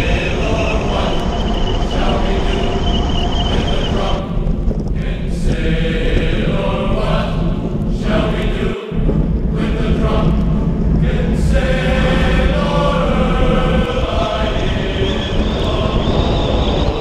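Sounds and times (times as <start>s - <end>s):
choir-like sung voices: 0.0s - 17.0s
steady low bass: 0.0s - 17.0s.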